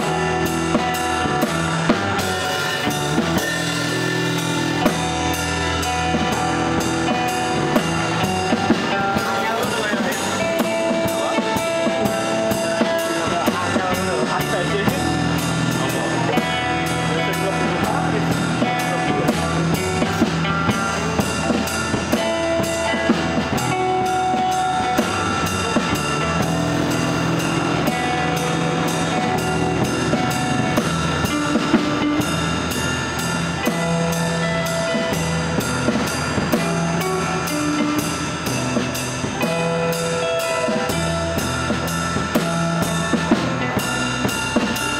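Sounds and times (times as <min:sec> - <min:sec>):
acoustic guitars strummed: 0:00.0 - 0:44.9
drums and cymbal beat: 0:00.0 - 0:44.9.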